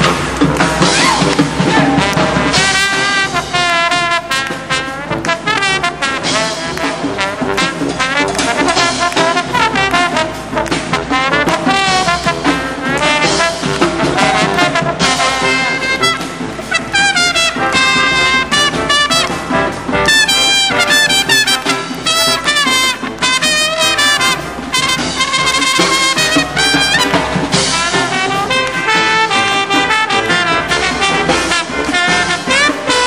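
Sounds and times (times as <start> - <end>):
cymbals: 0.0 - 33.0
snare drums: 0.0 - 33.0
trombones and trumpets: 0.0 - 33.0.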